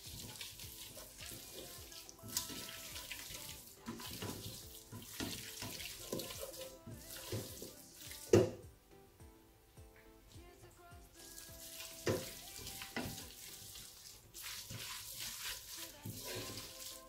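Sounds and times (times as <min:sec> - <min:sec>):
spoon stirring wet food: 0:00.0 - 0:08.6, 0:11.3 - 0:17.0.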